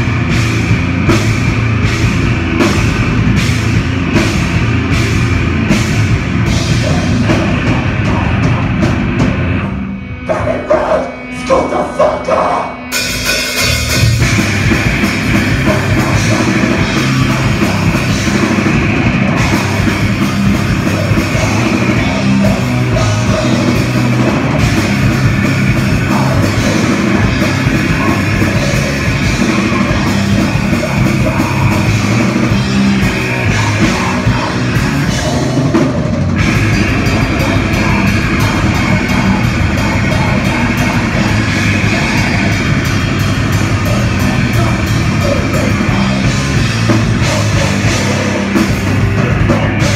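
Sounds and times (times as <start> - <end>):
heavy metal band playing: 0.0 - 49.9.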